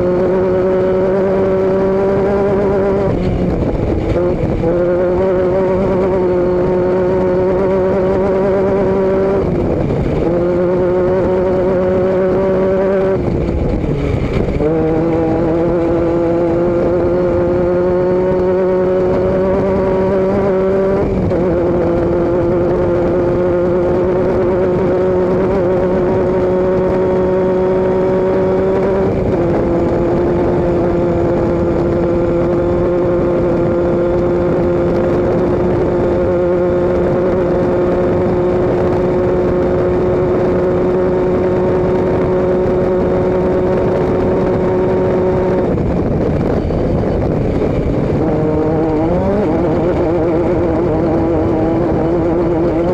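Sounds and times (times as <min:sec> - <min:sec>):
vehicle engine running loudly: 0:00.0 - 0:52.9.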